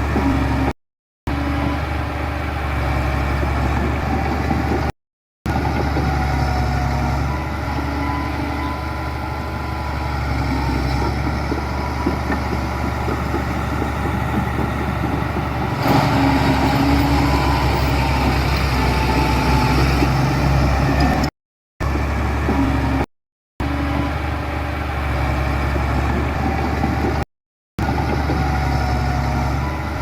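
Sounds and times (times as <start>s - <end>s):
heavy diesel machinery engine: 0.0s - 0.7s, 1.3s - 4.9s, 5.5s - 27.2s, 27.8s - 30.0s.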